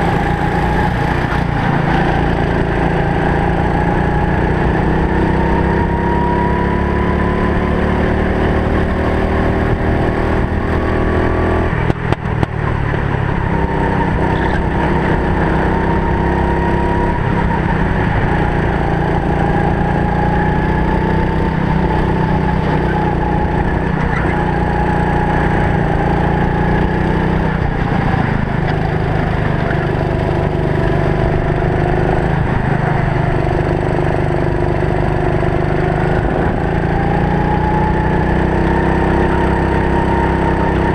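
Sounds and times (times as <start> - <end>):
kart engine running under load: 0.0 - 40.9.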